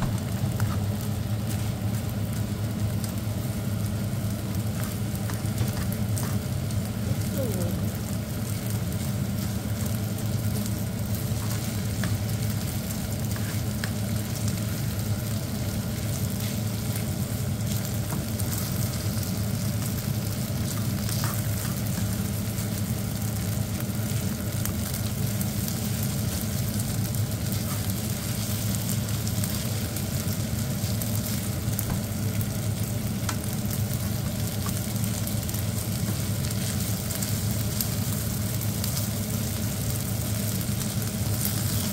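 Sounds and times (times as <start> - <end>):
rice sizzling in a frying pan: 0.0 - 41.9.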